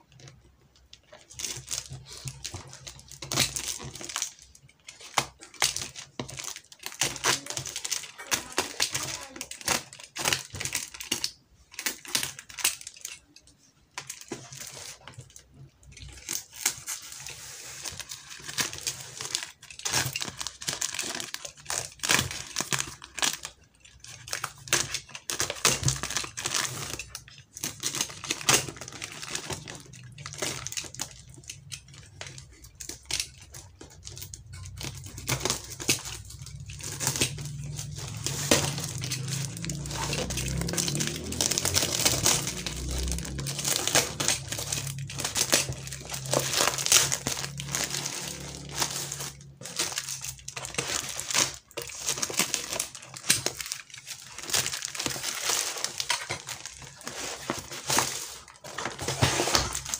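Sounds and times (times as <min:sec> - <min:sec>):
plastic wrap crinkling and tearing: 0:00.0 - 0:59.9.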